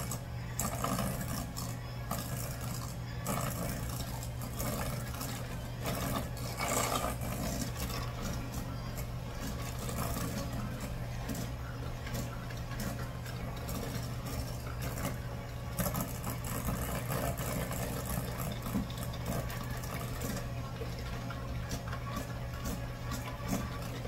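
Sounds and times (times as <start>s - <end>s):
beaters clicking on metal bowl: 0.0s - 24.0s
electric hand mixer running: 0.0s - 24.0s.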